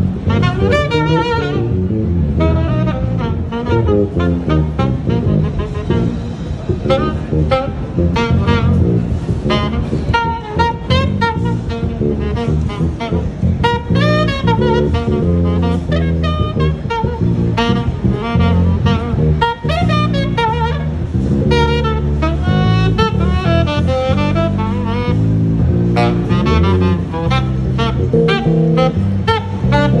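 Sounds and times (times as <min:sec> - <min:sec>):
electric bass line: 0:00.0 - 0:30.0
saxophone melody: 0:00.0 - 0:30.0.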